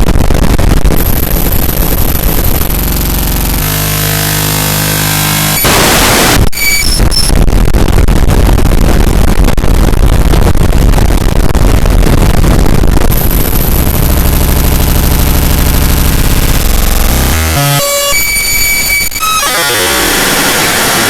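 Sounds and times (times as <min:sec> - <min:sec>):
distorted crackling noise: 0:00.0 - 0:21.0
fast stuttering low pulse: 0:00.0 - 0:21.0
high steady whine: 0:00.0 - 0:21.0.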